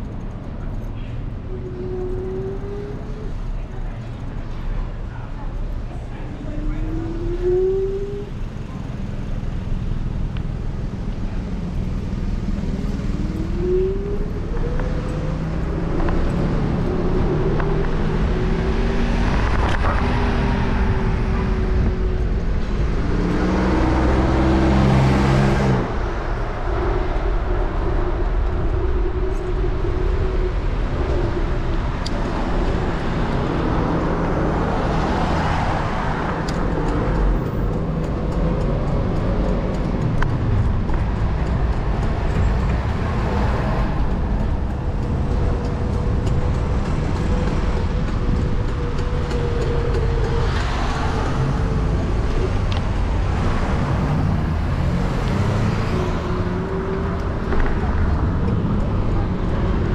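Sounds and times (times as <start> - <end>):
car and bus engines passing: 0.0 - 59.9.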